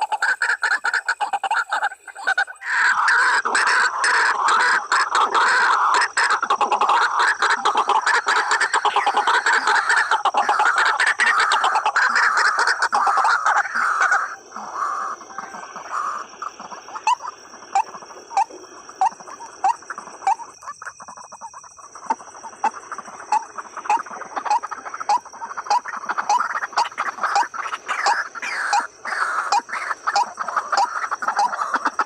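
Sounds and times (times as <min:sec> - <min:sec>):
waterhens calling: 0:00.0 - 0:32.0
steady high-pitched whine: 0:03.4 - 0:32.0.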